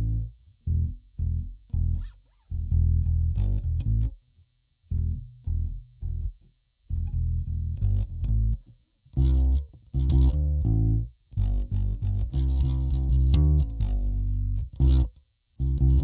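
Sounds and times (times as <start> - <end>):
electric bass plucked notes: 0.0 - 4.2, 4.9 - 16.0.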